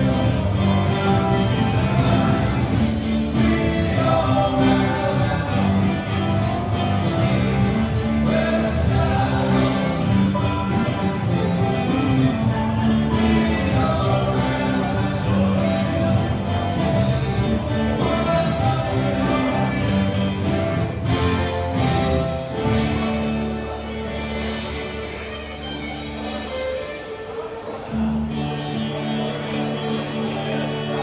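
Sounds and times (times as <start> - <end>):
steady drum beat: 0.0 - 26.7
live rock band playing: 0.0 - 31.0
person singing: 0.0 - 31.0.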